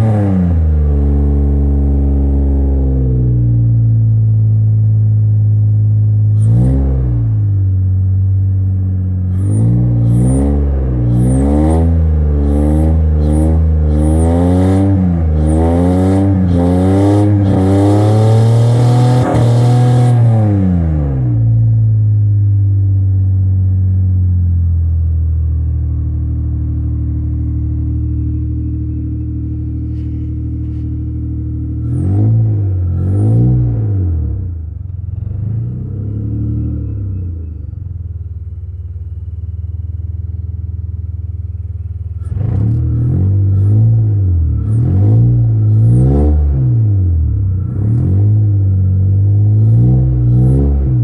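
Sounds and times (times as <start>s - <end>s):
car engine idling and revving: 0.0s - 51.0s.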